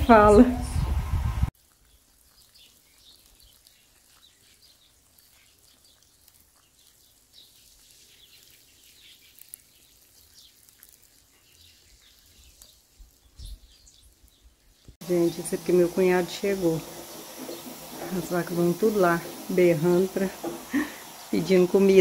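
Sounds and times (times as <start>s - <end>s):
rural outdoor ambience: 0.0s - 22.0s.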